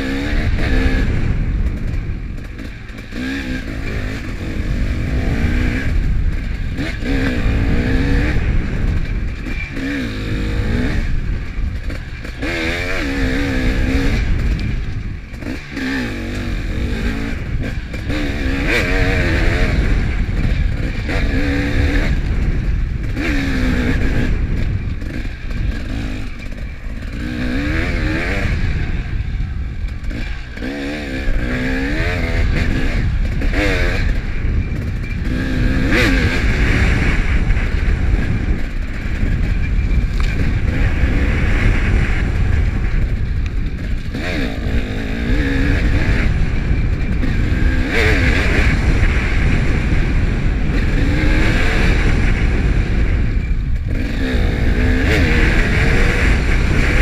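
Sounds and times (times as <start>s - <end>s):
dirt bike engine revving: 0.0s - 57.0s
wind rumble on microphone: 0.0s - 57.0s.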